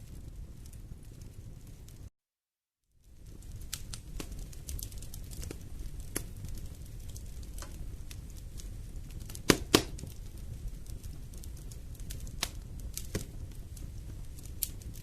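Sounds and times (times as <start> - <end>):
low rumble of flames: 0.0 - 2.1, 3.0 - 15.0
wood fire crackling and popping: 0.0 - 2.1, 3.0 - 15.0.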